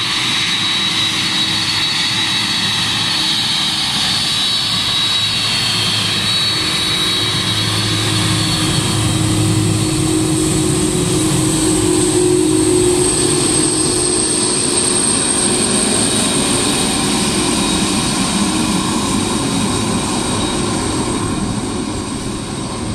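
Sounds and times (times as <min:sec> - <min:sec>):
jet engine roar with high whine: 0:00.0 - 0:22.9.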